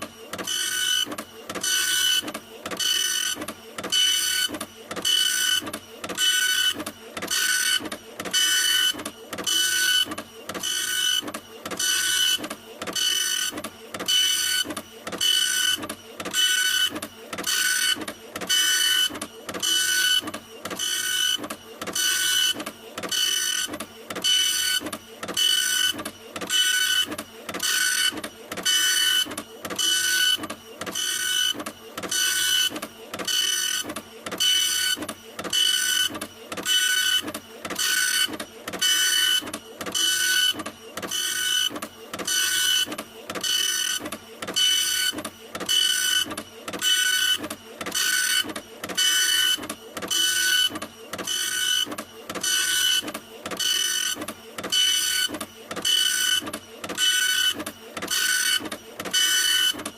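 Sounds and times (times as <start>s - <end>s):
printer mechanism whirring: 0.0s - 59.9s.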